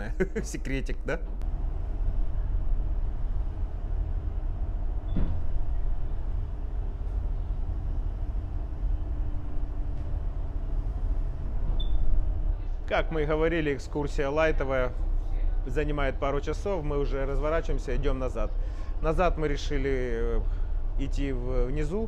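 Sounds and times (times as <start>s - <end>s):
boat engine drone: 1.4s - 22.0s.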